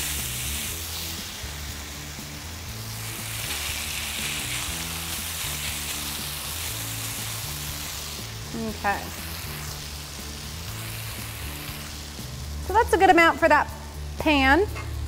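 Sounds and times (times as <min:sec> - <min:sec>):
low background music: 0:00.0 - 0:15.0
potato sizzling in oil: 0:00.0 - 0:15.0.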